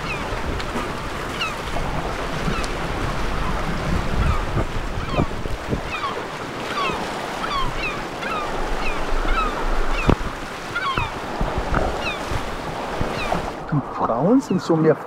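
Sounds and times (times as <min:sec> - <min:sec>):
flock of birds calling: 0:00.0 - 0:13.6
water washing: 0:00.0 - 0:15.0
wind: 0:00.0 - 0:15.0.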